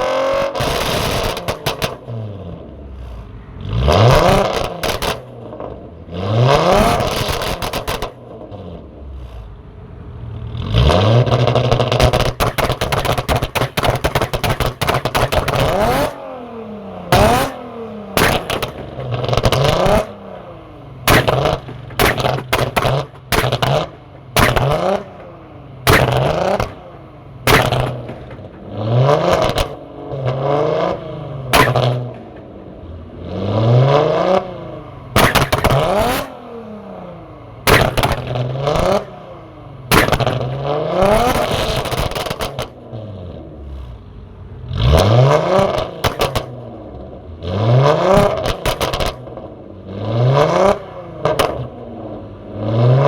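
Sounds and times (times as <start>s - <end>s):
exhaust pops and crackles: 0.0s - 3.4s, 4.0s - 9.6s, 10.8s - 16.4s, 17.1s - 34.4s, 35.1s - 36.5s, 37.6s - 44.0s, 44.8s - 49.6s, 50.2s - 51.8s
car engine revving: 0.0s - 53.0s.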